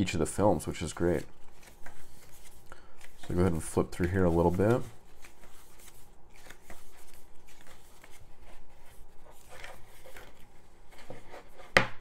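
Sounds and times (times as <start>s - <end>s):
book pages turning: 0.2s - 12.0s.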